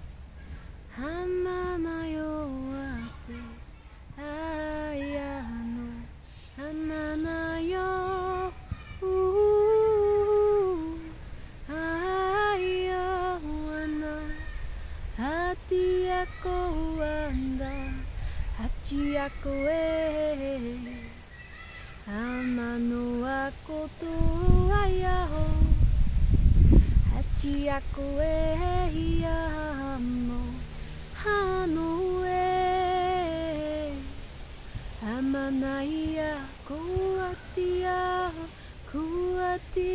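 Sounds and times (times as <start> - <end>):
woman singing unaccompanied: 0.9 - 21.3, 21.9 - 39.9.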